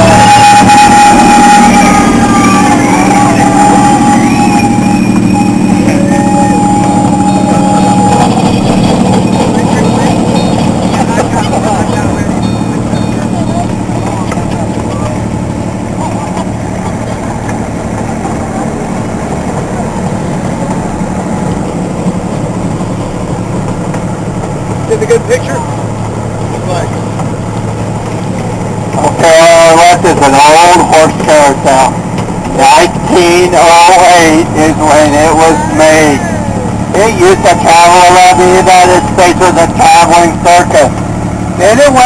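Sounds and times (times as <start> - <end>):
miniature train whine: 0.0 - 42.0.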